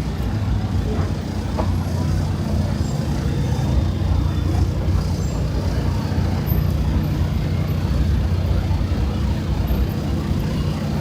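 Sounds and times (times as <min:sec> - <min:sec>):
street noise: 0:00.0 - 0:11.0
traffic engine rumble: 0:00.0 - 0:11.0.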